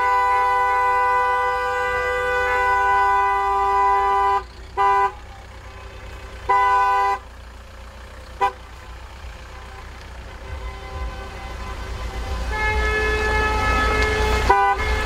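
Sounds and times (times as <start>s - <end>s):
two-tone car horn honking: 0.0s - 15.0s.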